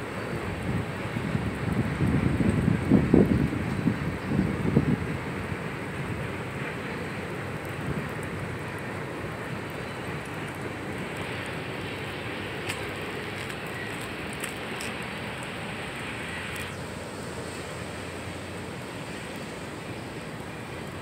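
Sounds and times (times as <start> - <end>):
freight train wheels on rail: 0.0 - 21.0.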